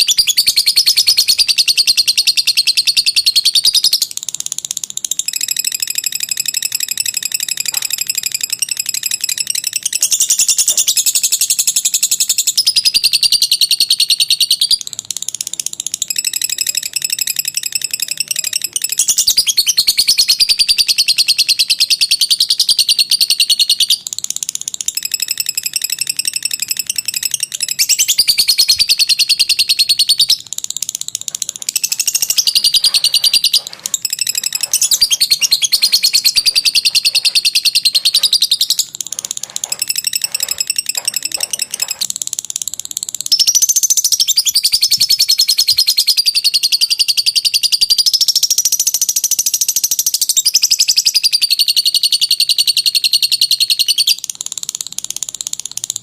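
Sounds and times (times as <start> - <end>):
lovebird chattering: 0.0 - 56.0.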